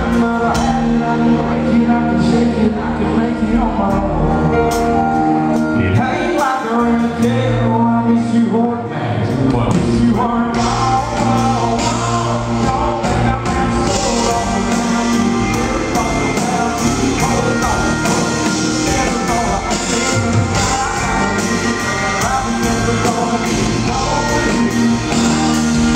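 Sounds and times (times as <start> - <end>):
band with drums and bass: 0.0 - 25.9
man singing country: 0.0 - 25.9.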